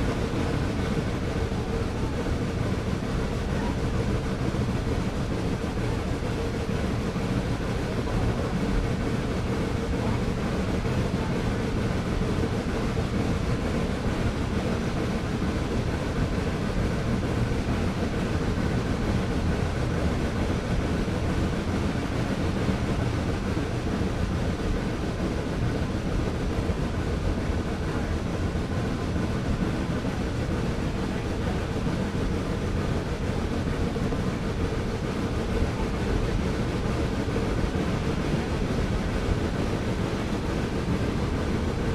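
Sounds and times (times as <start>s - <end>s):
train rumbling on track: 0.0s - 41.9s.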